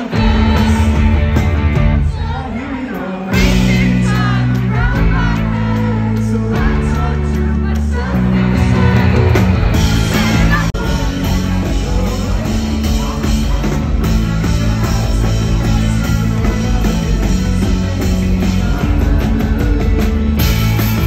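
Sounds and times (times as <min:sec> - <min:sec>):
indie rock band playing live: 0:00.0 - 0:21.0.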